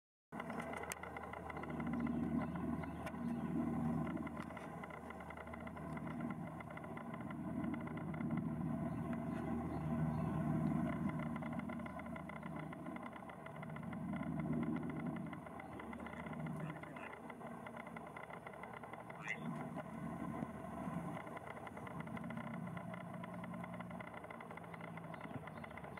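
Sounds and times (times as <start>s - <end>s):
helicopter flying past: 0.3s - 25.9s.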